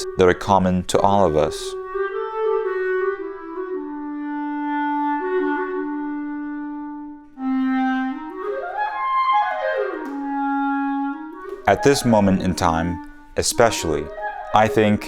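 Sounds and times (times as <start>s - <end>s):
solo clarinet playing: 1.2s - 15.0s.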